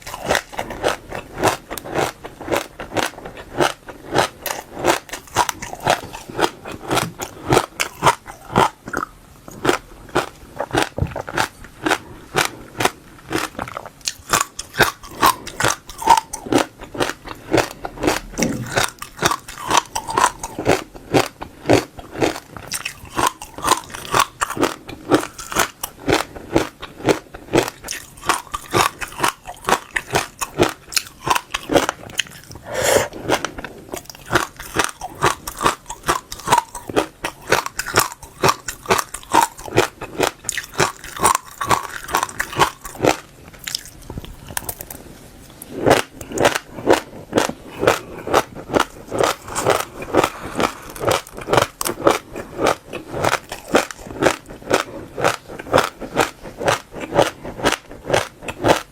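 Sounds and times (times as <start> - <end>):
seeds crunching between teeth: 0.0 - 45.0, 45.6 - 58.9.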